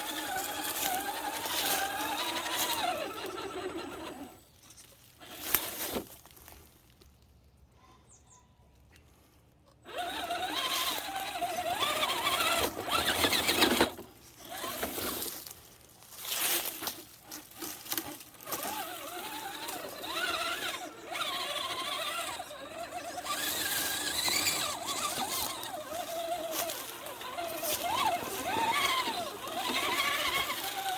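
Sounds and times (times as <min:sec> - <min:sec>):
rc car motor whining: 0:00.0 - 0:06.0, 0:09.8 - 0:15.5, 0:16.2 - 0:30.9.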